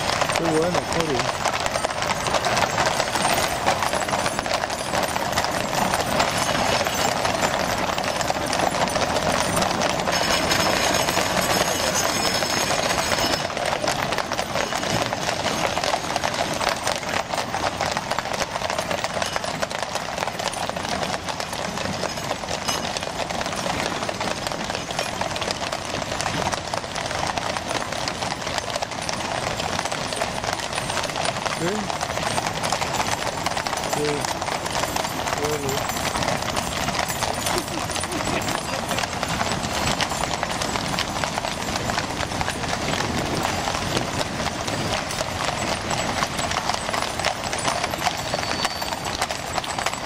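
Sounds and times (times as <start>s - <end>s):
horse hooves on pavement: 0.0s - 50.0s.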